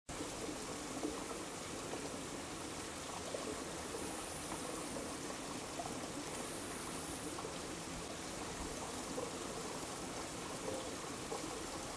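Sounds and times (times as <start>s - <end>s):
flowing water rushing: 0.1s - 11.9s.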